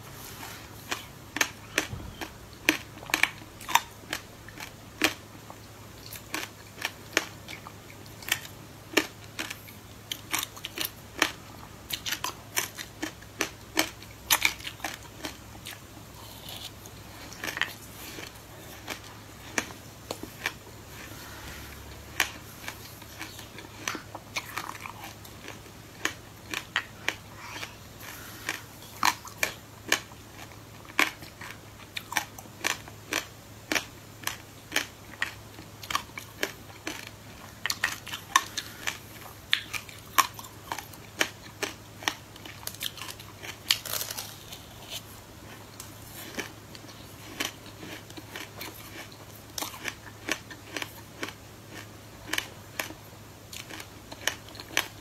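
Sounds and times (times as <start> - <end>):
crunchy chewing: 0.2 - 55.0.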